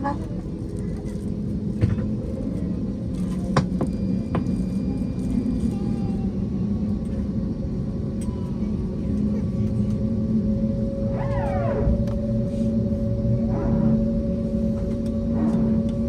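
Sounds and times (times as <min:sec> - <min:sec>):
aircraft cabin drone: 0:00.0 - 0:16.0.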